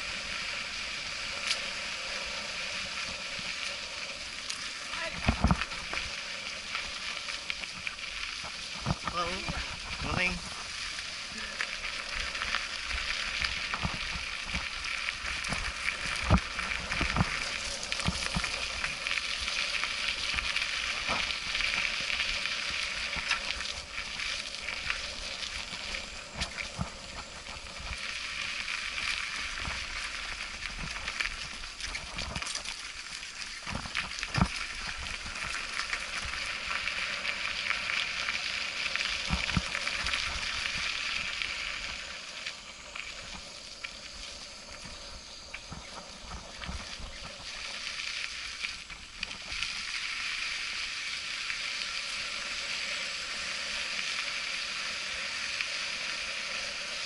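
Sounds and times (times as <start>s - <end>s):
bike tyres crunching leaves: 0.0s - 57.0s.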